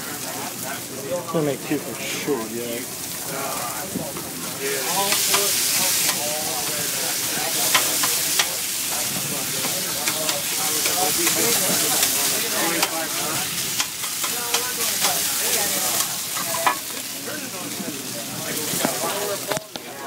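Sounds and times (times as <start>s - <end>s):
meat sizzling in a hot pan: 0.0s - 20.0s.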